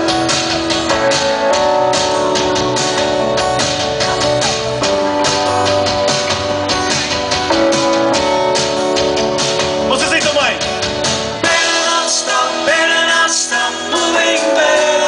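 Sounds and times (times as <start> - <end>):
steady drum beat: 0.0 - 14.4
guitars playing chords: 0.0 - 15.0.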